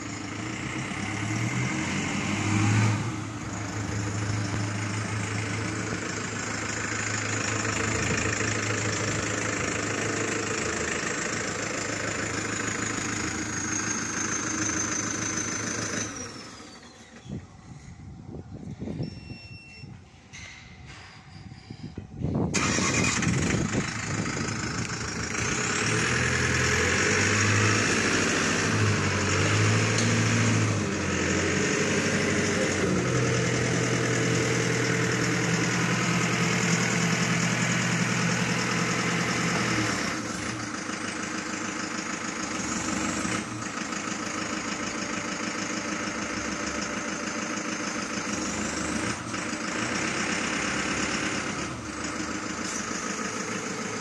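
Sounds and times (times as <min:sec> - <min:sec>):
forklift engine running: 0:00.0 - 0:54.0.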